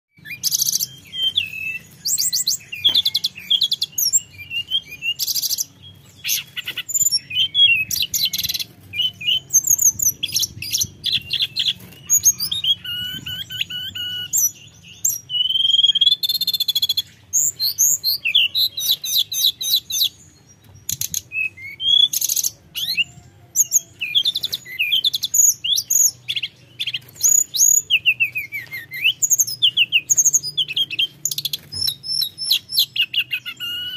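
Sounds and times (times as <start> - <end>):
bird singing: 0.1 - 33.9.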